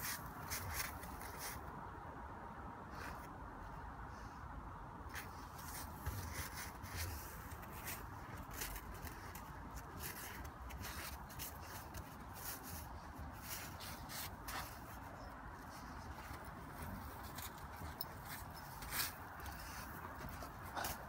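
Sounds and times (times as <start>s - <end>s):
dog scraping on crusted snow: 0.0s - 1.6s, 5.2s - 21.0s.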